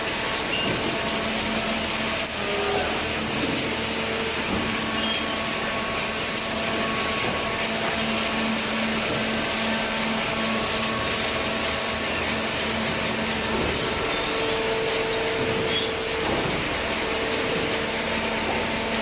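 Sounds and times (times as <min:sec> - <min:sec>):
continuous hum: 0:00.0 - 0:19.0.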